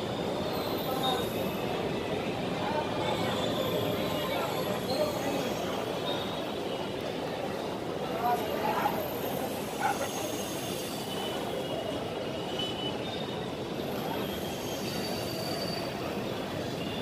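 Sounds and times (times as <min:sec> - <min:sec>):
high-pitched wheel squeals: 0:00.0 - 0:01.9, 0:03.0 - 0:06.8, 0:09.0 - 0:17.0.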